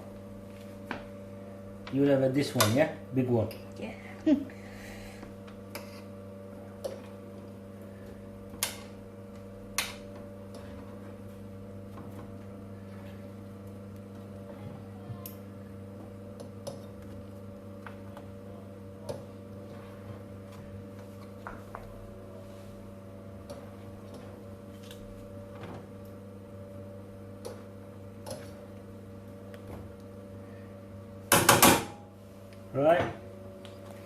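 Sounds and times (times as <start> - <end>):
oven electric hum: 0.0 - 34.0.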